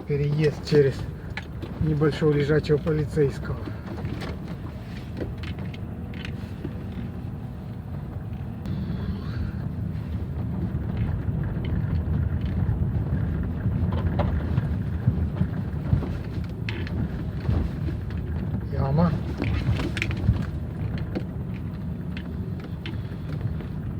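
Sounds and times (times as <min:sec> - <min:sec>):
road and engine rumble: 0:00.0 - 0:23.9.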